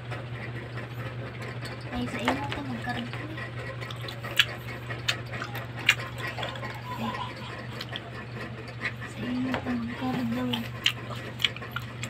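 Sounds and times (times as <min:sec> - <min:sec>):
mouth chewing grapes: 0:00.8 - 0:12.0.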